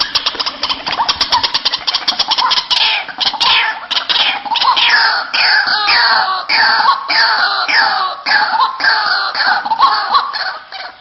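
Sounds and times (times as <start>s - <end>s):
waterhens calling: 0.0s - 11.0s.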